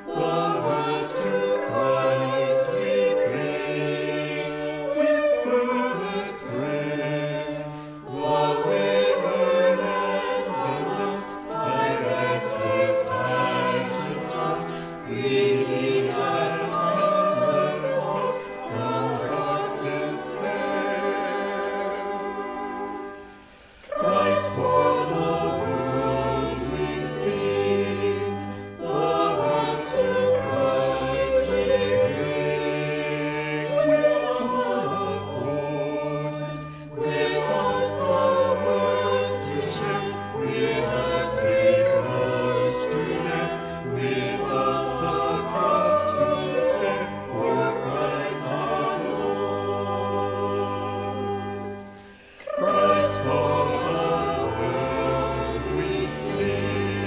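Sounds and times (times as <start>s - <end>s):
choir singing sustained chords: 0.0s - 57.0s.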